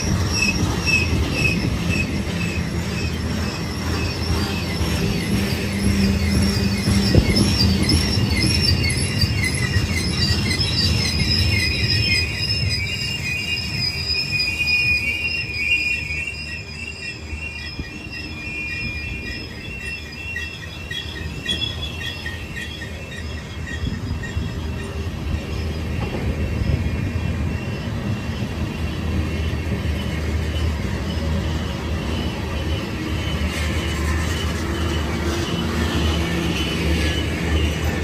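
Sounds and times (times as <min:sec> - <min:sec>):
low rumble of train cars: 0:00.0 - 0:38.0
train wheels squealing on rail: 0:00.0 - 0:38.0.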